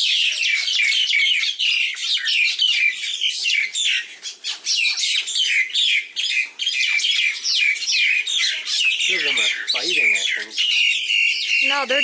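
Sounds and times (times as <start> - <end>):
birds calling rapidly: 0.0 - 12.0.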